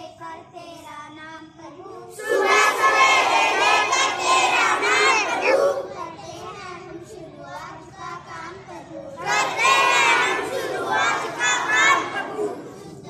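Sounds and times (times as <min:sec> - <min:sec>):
children chanting a prayer: 0:00.0 - 0:13.0.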